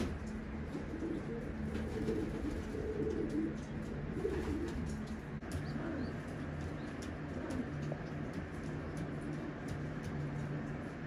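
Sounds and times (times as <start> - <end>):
pigeons cooing: 0.0 - 10.9.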